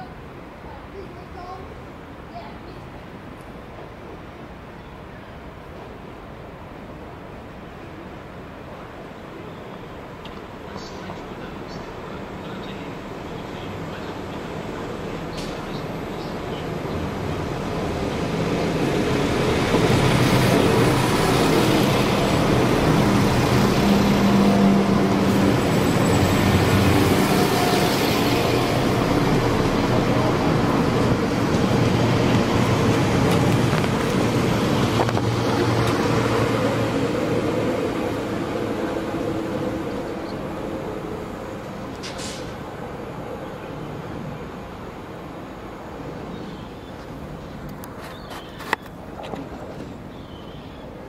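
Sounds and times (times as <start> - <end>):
diesel train engine drone: 5.4 - 48.0.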